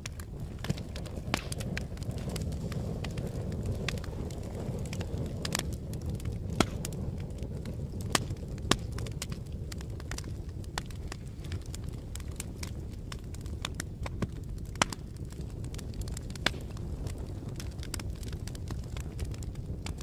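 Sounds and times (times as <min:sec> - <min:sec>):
burning flames rushing: 0:00.0 - 0:20.0
wood fire crackling: 0:00.0 - 0:20.0.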